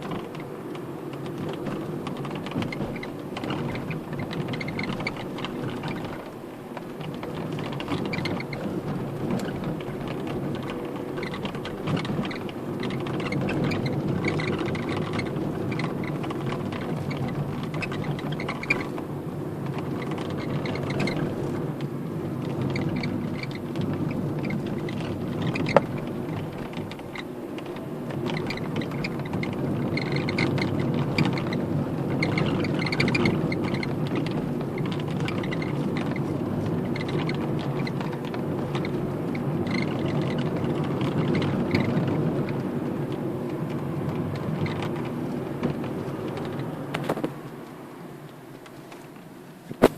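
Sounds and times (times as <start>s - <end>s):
dashboard squeaking: 0.0s - 47.4s
car driving rumble: 0.0s - 49.9s.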